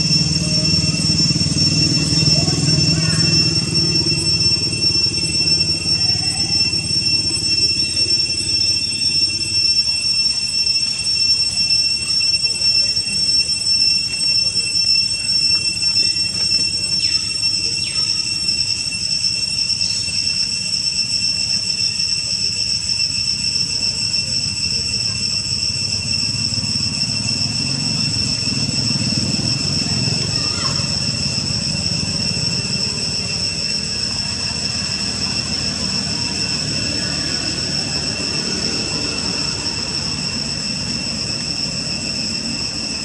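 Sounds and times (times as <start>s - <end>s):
insect drone: 0.0s - 43.0s.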